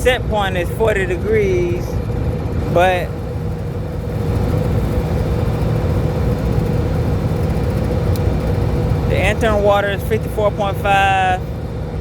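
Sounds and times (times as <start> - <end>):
chiller mechanical hum: 0.0 - 12.0
constant mid-pitched tone: 0.0 - 12.0.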